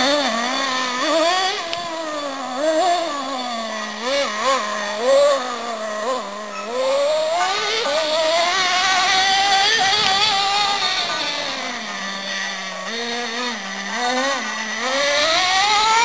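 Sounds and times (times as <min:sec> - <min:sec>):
toy truck nitro engine revving: 0:00.0 - 0:16.0.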